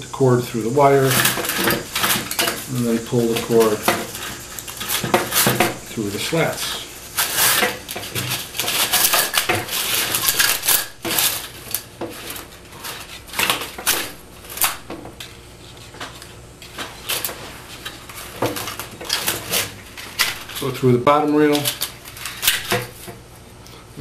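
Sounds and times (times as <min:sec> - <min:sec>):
blind slats clattering and clicking: 0:01.0 - 0:15.3, 0:16.8 - 0:23.2.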